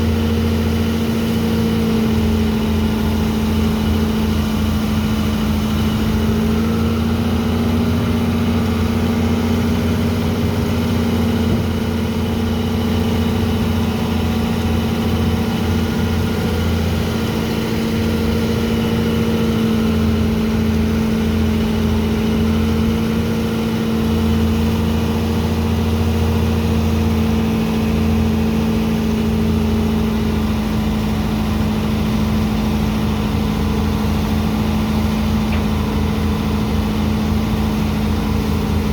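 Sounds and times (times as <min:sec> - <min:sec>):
pump engine droning: 0:00.0 - 0:38.9.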